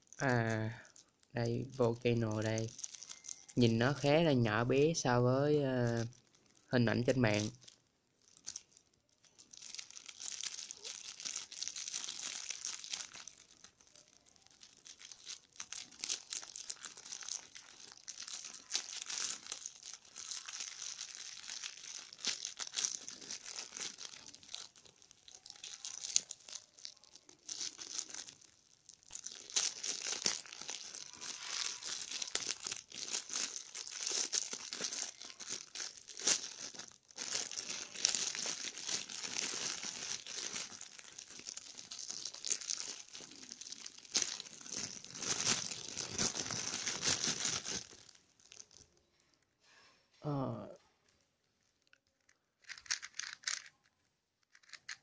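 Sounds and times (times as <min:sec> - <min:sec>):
plastic bag crinkling: 0:00.0 - 0:49.8, 0:51.7 - 0:55.0.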